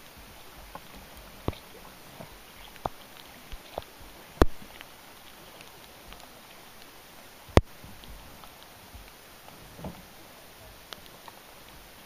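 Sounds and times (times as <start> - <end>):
rain falling on a kayak and lake: 0.0 - 12.0.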